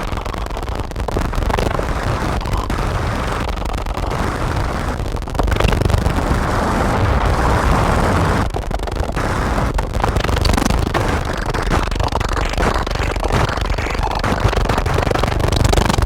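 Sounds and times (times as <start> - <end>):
distorted electronic noise: 0.0 - 16.0.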